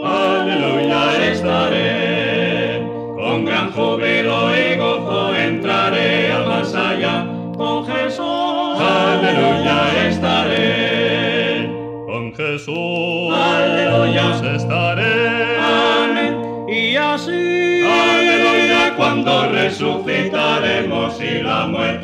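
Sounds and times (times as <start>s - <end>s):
male vocal quartet singing hymn: 0.0s - 22.0s.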